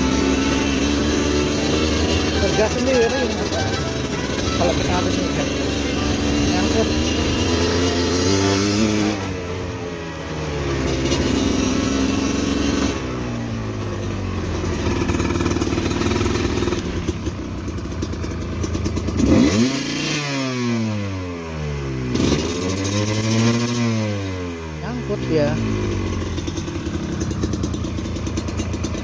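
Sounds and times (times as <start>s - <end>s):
dirt motorcycle engine revving: 0.0s - 29.0s.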